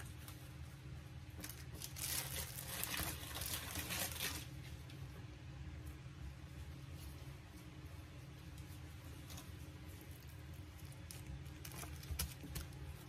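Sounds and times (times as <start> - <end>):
plastic gloves crinkling: 0.0 - 5.2, 6.6 - 13.0
low steady hum: 0.0 - 13.0.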